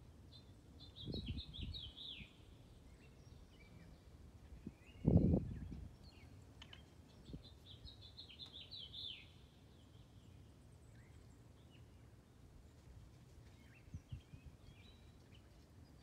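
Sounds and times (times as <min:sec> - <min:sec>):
faint bird chirping: 0:00.3 - 0:16.0.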